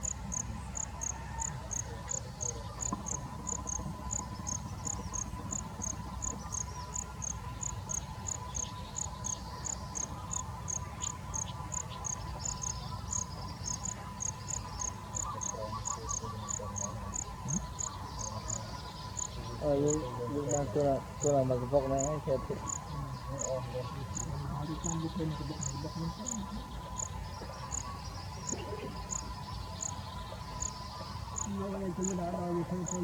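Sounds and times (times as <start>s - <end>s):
faint steady tone: 0.0s - 33.0s
insect chirping: 0.0s - 33.0s.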